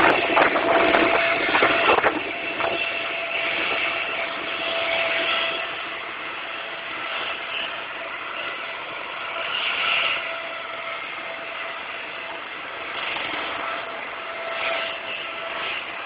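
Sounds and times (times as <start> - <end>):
helicopter rushing and whining: 0.0 - 16.0.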